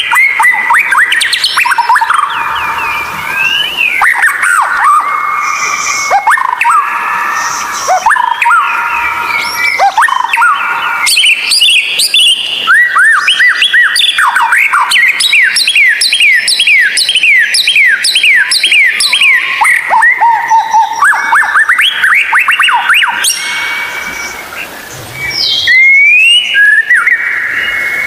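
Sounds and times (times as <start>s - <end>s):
bird whistling song: 0.0s - 28.0s.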